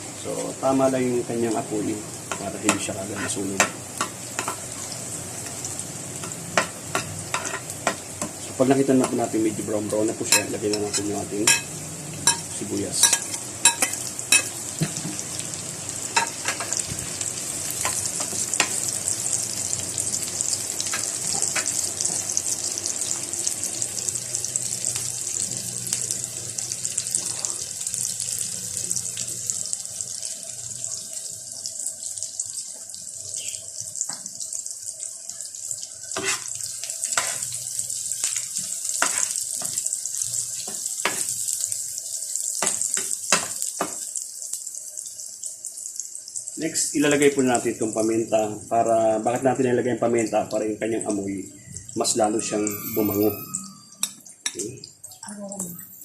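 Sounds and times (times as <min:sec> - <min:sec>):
garlic and onion sizzling in oil: 0:00.0 - 0:55.2.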